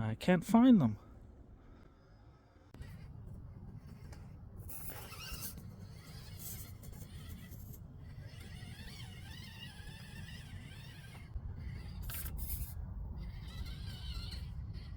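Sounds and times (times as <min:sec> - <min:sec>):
small electric motor whining: 0:01.6 - 0:14.9.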